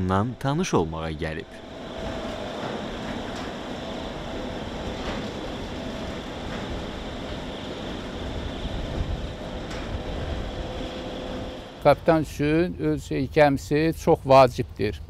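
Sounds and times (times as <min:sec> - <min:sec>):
open-air ambience: 0:00.0 - 0:15.0
wind buffeting microphone: 0:01.4 - 0:15.0.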